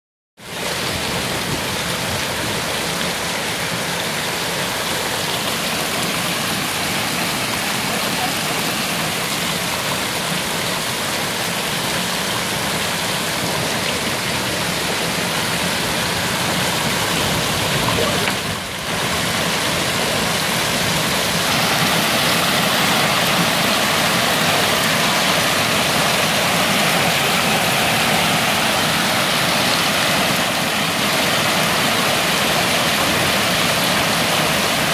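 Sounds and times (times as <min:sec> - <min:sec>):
hail and rain pelting down: 0:00.7 - 0:34.9.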